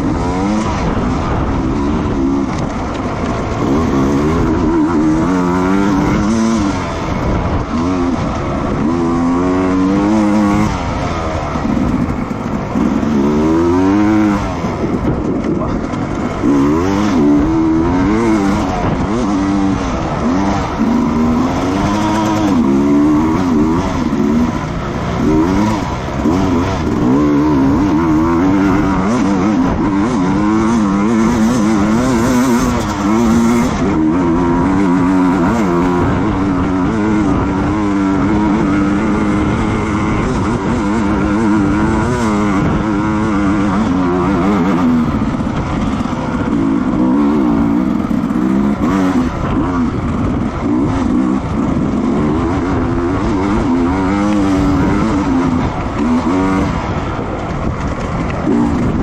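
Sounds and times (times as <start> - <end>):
racing motorcycle engine: 0.0 - 59.0
wind and road noise: 0.0 - 59.0.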